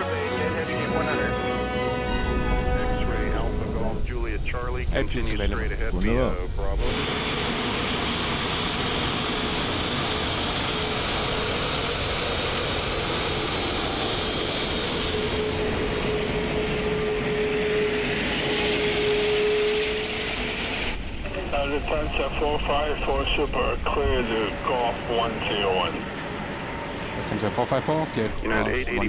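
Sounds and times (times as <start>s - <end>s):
jet engines rushing and whining: 0.0s - 29.0s.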